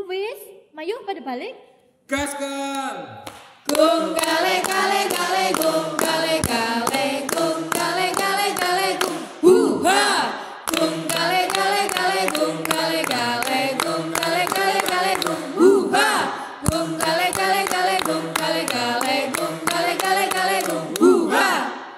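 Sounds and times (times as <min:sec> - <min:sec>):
rhythmic hand clapping: 0:02.6 - 0:09.4, 0:10.0 - 0:21.8
group chanting in unison: 0:03.7 - 0:21.9.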